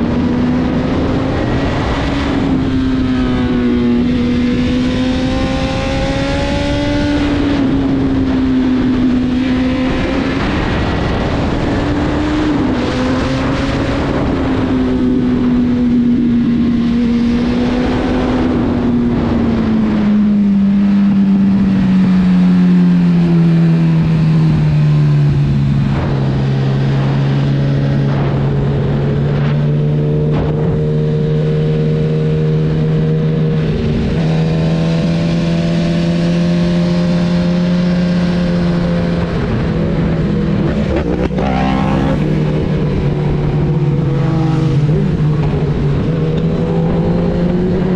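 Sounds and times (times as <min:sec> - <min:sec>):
motorcycle engine running: 0:00.0 - 0:47.9
wind and road rush: 0:00.0 - 0:47.9.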